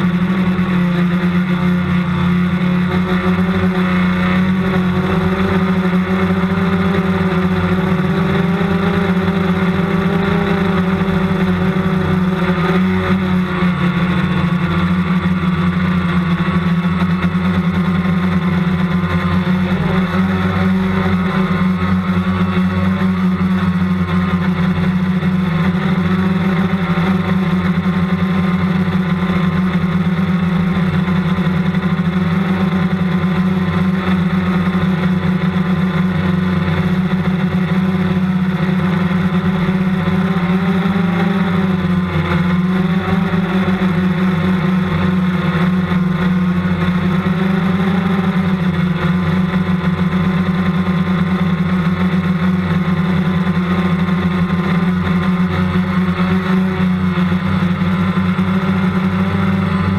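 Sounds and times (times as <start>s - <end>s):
drone propellers droning: 0.0s - 59.9s.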